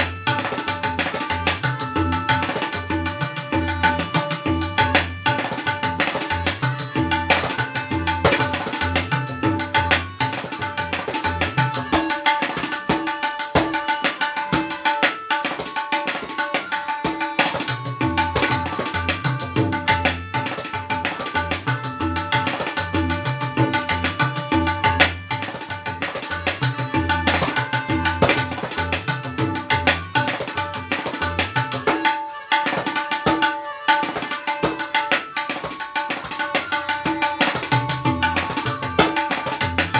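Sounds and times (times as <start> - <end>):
fast treble tabla strokes: 0.0 - 39.9.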